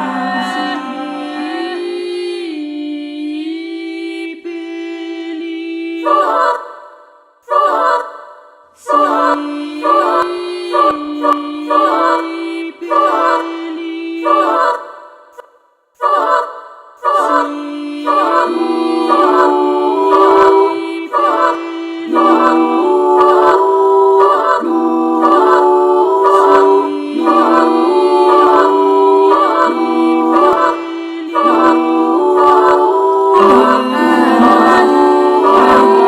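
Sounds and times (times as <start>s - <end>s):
a cappella ensemble singing in harmony: 0.0s - 36.0s.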